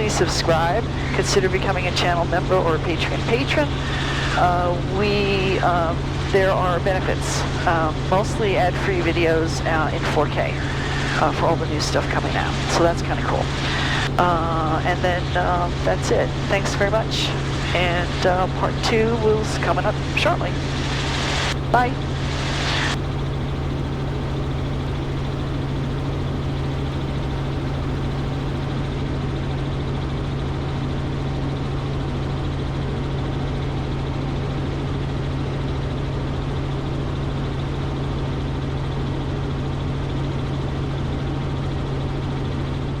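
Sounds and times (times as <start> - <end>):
helicopter engine and rotors droning: 0.0 - 43.0.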